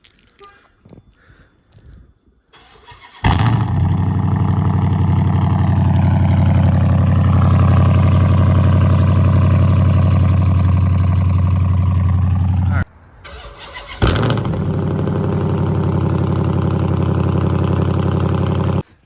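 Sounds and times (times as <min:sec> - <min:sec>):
car engine starting and idling: 0:02.6 - 0:18.8.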